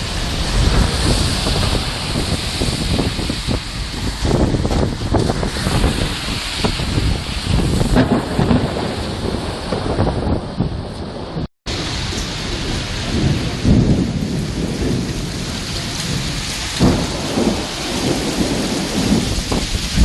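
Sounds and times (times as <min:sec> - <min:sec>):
heavy rain pouring: 0:00.0 - 0:20.0
thunder rumbling: 0:00.0 - 0:20.0.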